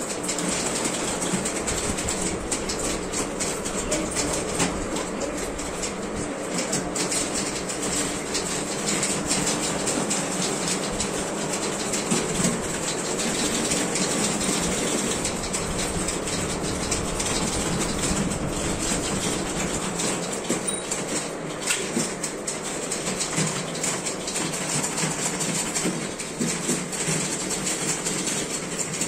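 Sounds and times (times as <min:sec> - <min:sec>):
manual typewriters clattering: 0:00.0 - 0:29.0.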